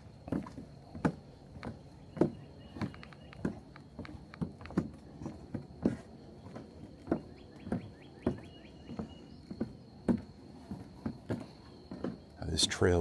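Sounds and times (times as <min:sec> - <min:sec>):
footsteps on wooden boardwalk: 0:00.0 - 0:13.0.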